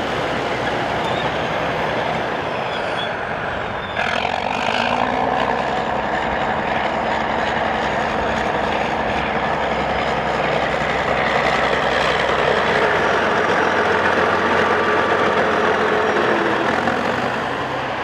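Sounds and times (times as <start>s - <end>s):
bulldozer running: 0.0s - 18.0s.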